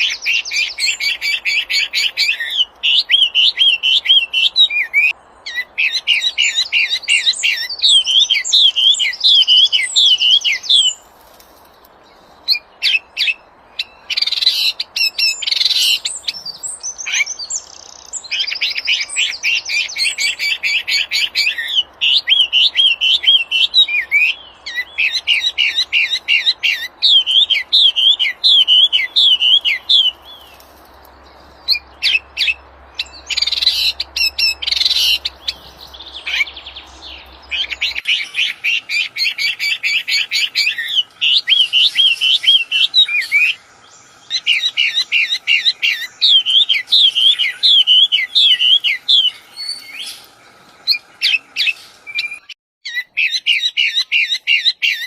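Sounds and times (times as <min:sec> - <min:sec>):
songbird chirping and trilling: 0:00.0 - 0:55.0.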